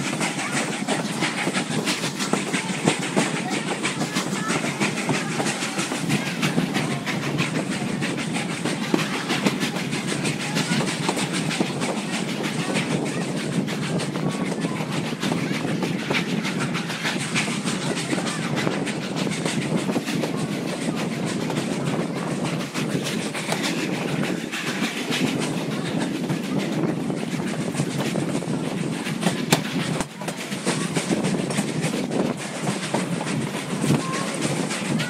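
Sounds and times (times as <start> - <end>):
train cars rumbling and rattling: 0.0 - 35.0
wheels clicking over rail joints: 0.0 - 35.0.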